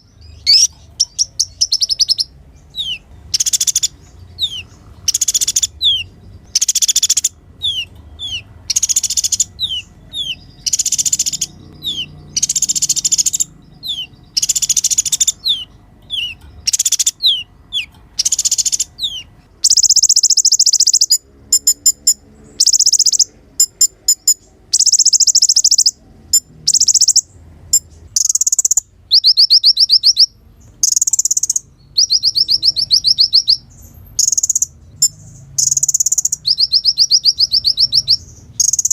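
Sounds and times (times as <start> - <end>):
bird singing trilled phrases: 0.0 - 38.9.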